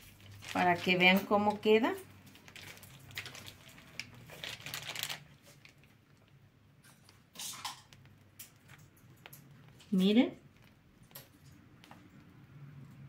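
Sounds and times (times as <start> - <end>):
plastic piping bag crinkling: 0.0 - 12.3.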